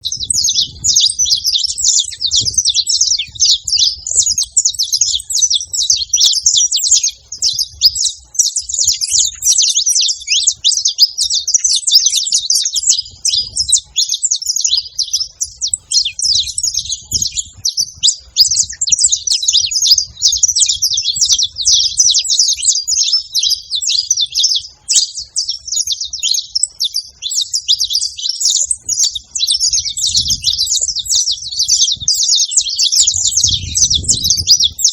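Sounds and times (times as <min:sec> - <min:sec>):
finches chirping and trilling: 0:00.0 - 0:34.9.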